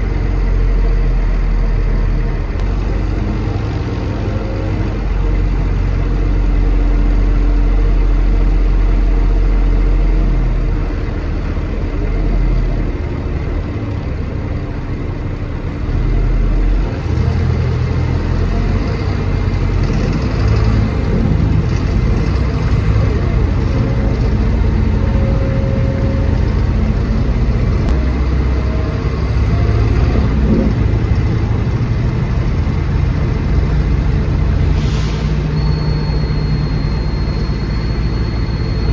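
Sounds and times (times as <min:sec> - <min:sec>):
bus diesel engine working hard: 0:00.0 - 0:38.9.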